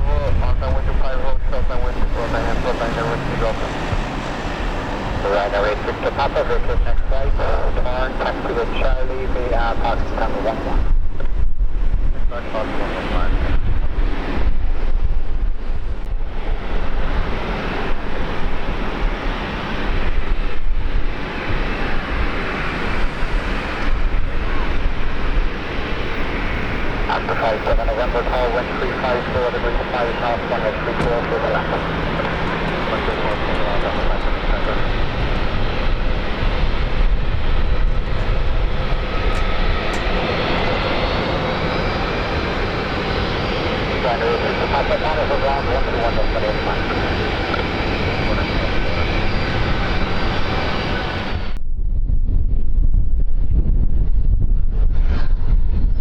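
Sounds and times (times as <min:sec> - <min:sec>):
airliner engines rumbling: 0:00.0 - 0:51.8
wind buffeting microphone: 0:00.0 - 0:56.0.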